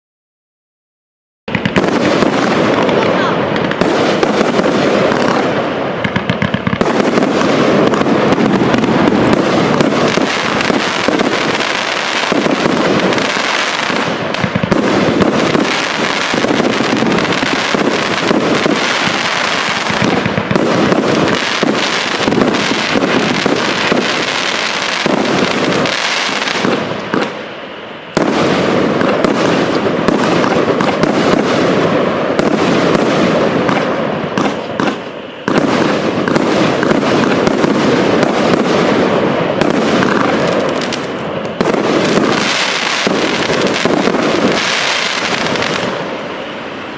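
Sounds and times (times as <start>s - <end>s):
firework cake firing shots: 1.5s - 27.5s, 28.1s - 46.1s.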